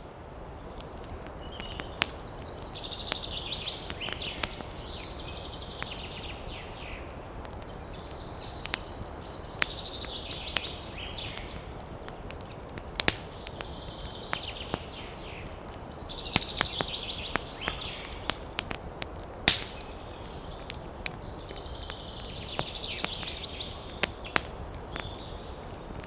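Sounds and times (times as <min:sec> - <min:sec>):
campfire crackling: 0:00.0 - 0:26.0
birds chirping: 0:00.3 - 0:26.0.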